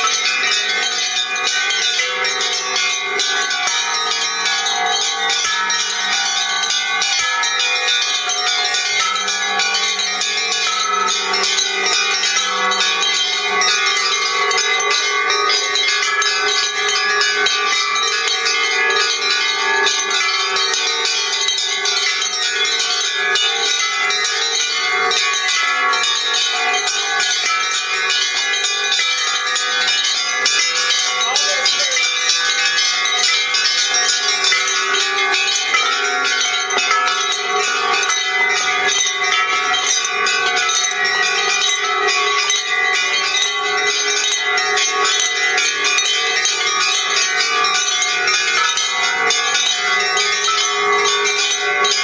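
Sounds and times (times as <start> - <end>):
many bells ringing: 0.0 - 52.0.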